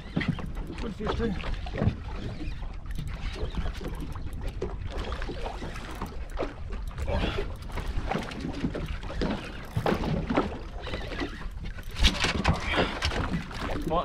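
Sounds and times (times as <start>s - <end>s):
wind and water rumble: 0.0s - 14.0s.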